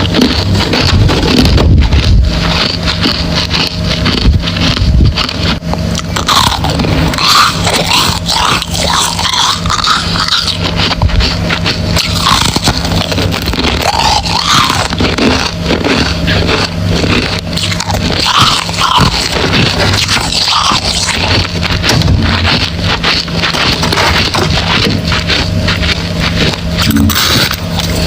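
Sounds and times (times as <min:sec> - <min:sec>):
chewing ice crunching: 0:00.0 - 0:28.0
steady low hum: 0:00.0 - 0:28.0.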